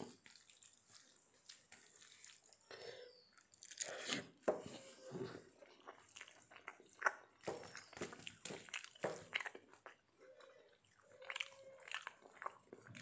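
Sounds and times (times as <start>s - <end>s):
soft squishes of rice: 0.0s - 13.0s.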